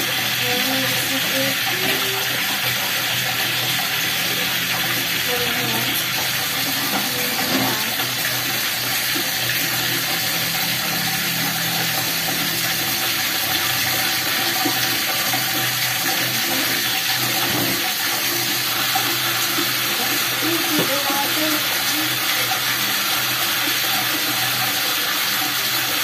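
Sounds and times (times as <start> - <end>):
water running from tap: 0.0 - 26.0.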